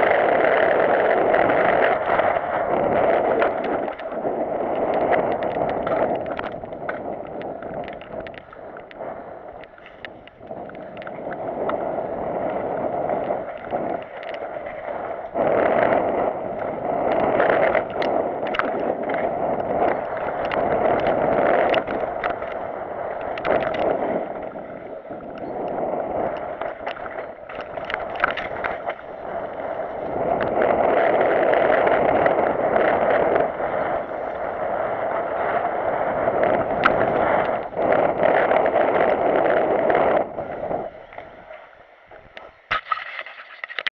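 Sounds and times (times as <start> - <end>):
bike clattering over bumps: 0.0 - 41.4
bike tyres and air rushing: 0.0 - 43.8.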